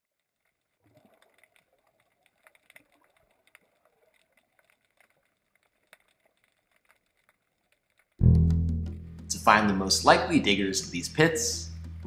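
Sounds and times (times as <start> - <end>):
faint underwater clicks: 0.0 - 12.0.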